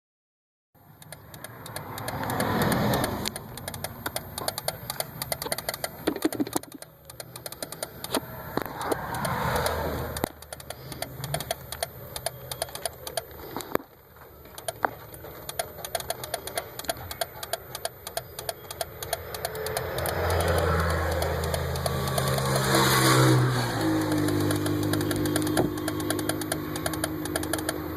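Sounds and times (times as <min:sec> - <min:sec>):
engine hum: 0:00.8 - 0:27.9
fast irregular clicking: 0:01.0 - 0:13.8, 0:14.5 - 0:27.9.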